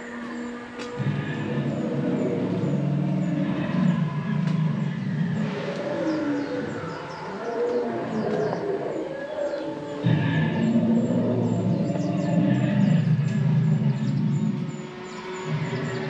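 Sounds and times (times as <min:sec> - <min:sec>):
dinosaur growls and roars: 0:00.0 - 0:16.0.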